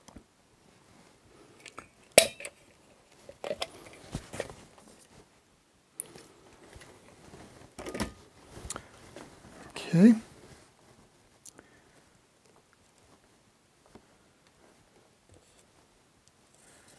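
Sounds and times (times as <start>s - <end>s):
soft rustle: 0.0s - 16.9s.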